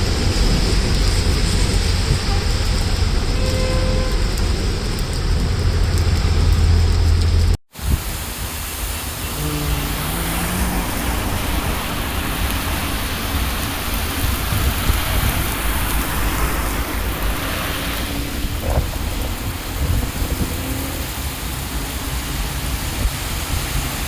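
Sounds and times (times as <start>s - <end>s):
car traffic on wet street: 0.0s - 24.0s
heavy rain falling: 0.0s - 24.0s.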